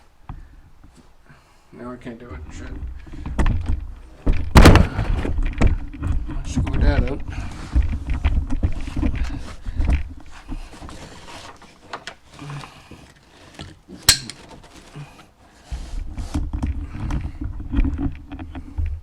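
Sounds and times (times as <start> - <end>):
handling rustles and light knocks: 2.0 - 19.0.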